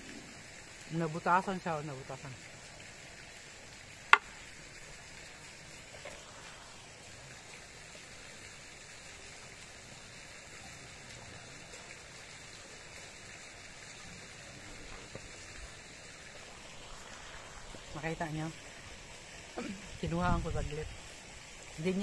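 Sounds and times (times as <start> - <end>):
fountain water rushing: 0.0 - 22.0.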